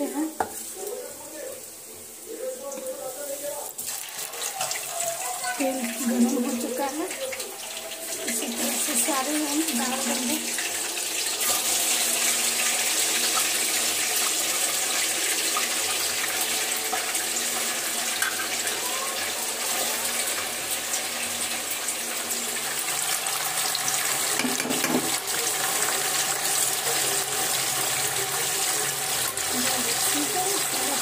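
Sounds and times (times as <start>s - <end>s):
hot oil spitting: 0.0s - 31.0s
oil sizzling with crackling: 0.0s - 31.0s.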